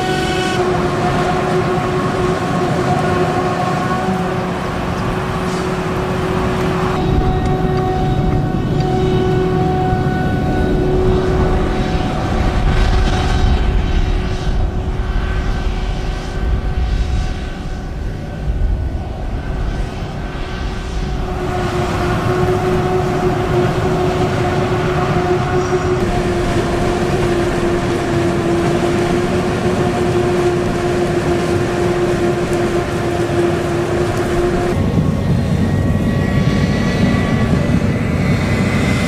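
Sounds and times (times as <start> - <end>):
machinery droning hum: 0.0 - 39.0.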